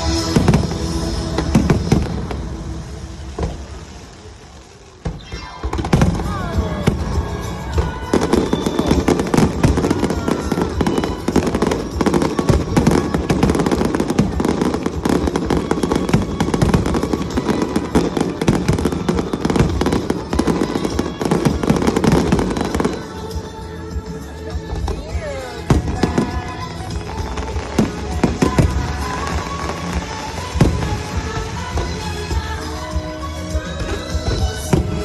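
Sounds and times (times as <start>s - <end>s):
fireworks bangs and crackles: 0.0s - 35.0s
music playing: 0.0s - 35.0s.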